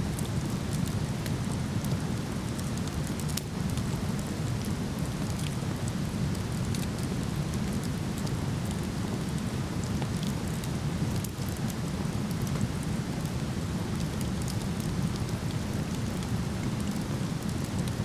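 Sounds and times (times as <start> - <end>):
wood fire crackling: 0.1 - 18.0.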